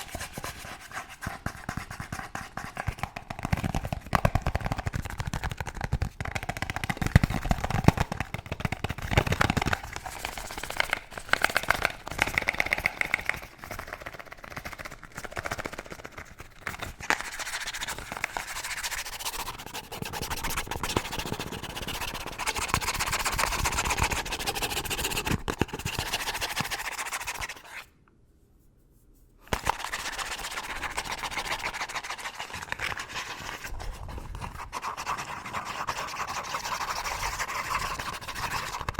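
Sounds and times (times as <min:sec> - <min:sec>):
scratching and tapping on hard objects: 0:00.0 - 0:27.9, 0:29.5 - 0:38.9.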